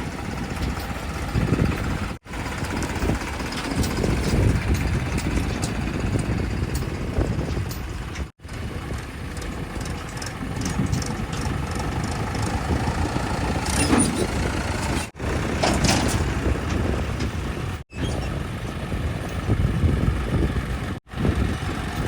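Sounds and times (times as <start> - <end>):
diesel engine low rumble: 0.0 - 22.0.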